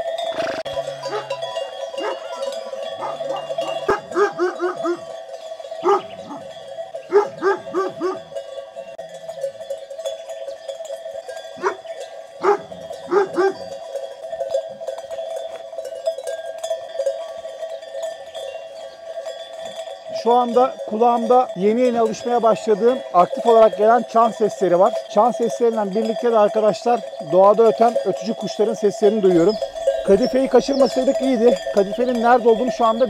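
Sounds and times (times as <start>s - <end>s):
sheep bells clanking: 0.0s - 33.0s.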